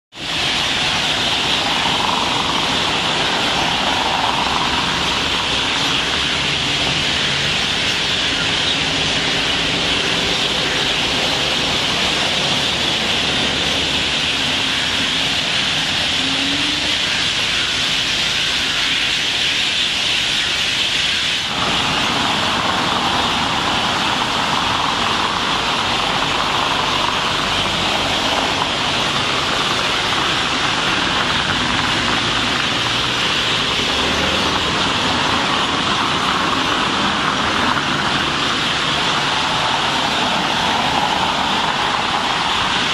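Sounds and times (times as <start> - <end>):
low rumble of road traffic: 0.1 - 42.9
flock of birds chattering: 0.2 - 42.9.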